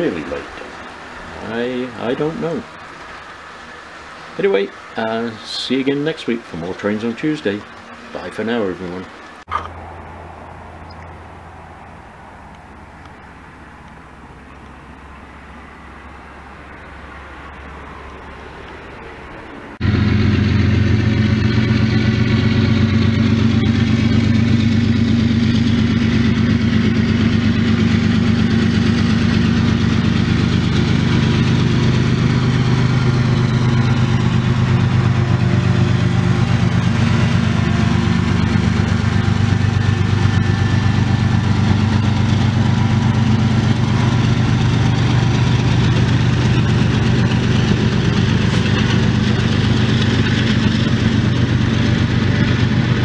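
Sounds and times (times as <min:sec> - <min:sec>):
diesel locomotives droning: 0:00.0 - 0:53.0
truck passing on road: 0:00.0 - 0:53.0.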